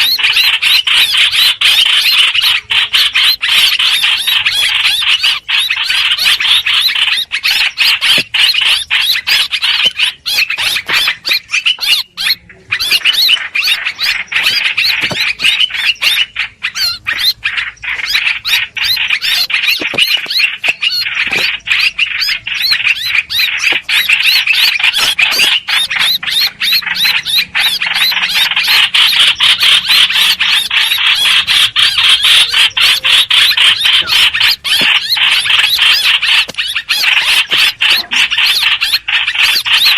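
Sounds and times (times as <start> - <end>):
bird rapid chattering calls: 0.0 - 39.9.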